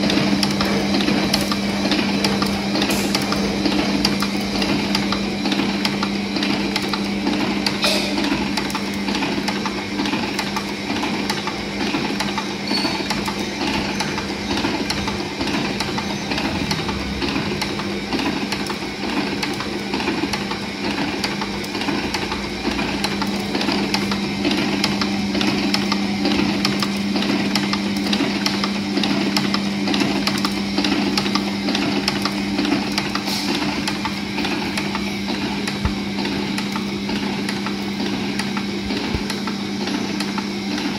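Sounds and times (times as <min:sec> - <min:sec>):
motor hum: 0:00.0 - 0:40.9
rapid mechanical clicking: 0:00.0 - 0:40.9.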